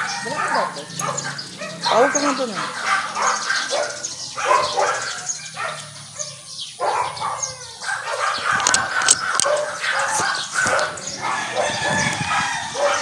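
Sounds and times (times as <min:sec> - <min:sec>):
dogs barking: 0:00.0 - 0:13.0.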